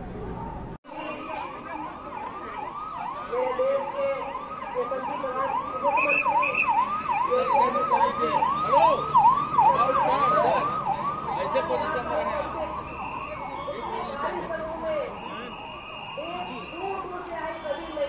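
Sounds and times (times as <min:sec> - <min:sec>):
police siren yelping: 0:00.4 - 0:18.0.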